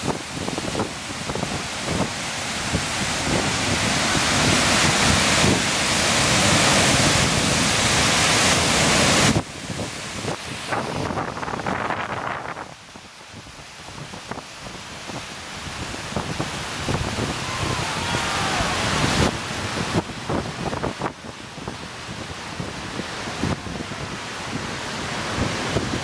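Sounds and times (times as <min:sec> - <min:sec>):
waterfall rushing: 0:00.0 - 0:26.0
wind buffeting microphone: 0:00.0 - 0:26.0.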